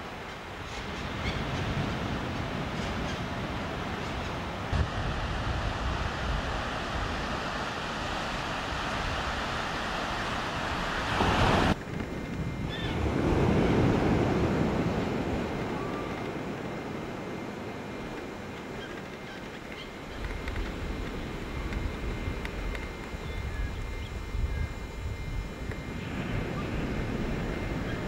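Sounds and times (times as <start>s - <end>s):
wind on the microphone: 0.0s - 17.5s, 20.0s - 28.0s
waves breaking on a beach: 0.0s - 23.2s, 25.8s - 28.0s.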